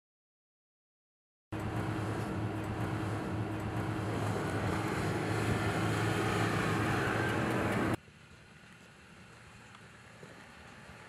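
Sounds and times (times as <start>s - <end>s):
pickup engine running: 1.5s - 11.0s.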